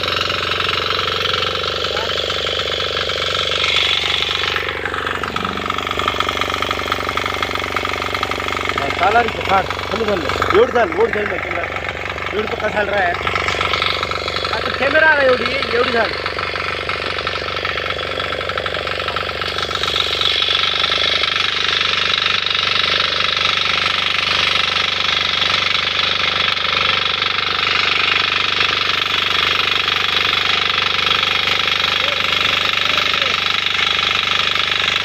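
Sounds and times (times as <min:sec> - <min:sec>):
diesel engine running: 0:00.0 - 0:35.0
rotor tilling soil: 0:00.0 - 0:35.0.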